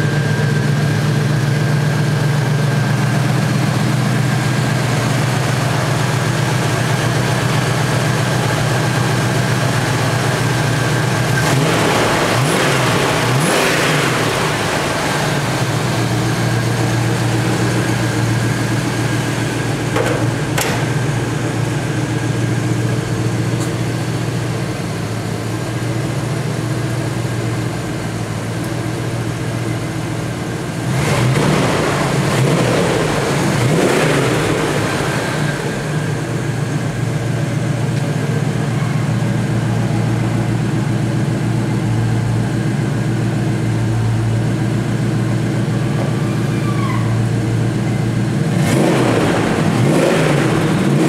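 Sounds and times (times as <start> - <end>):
car engine idling and revving: 0.0 - 51.0.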